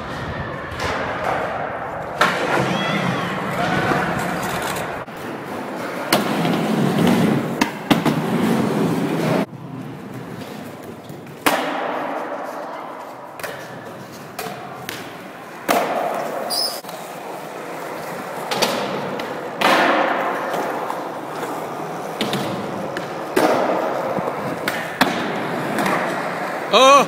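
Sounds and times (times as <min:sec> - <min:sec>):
skateboard wheels rolling: 0:00.0 - 0:26.7
skateboard cracks and clatters: 0:00.7 - 0:09.5, 0:10.1 - 0:26.6.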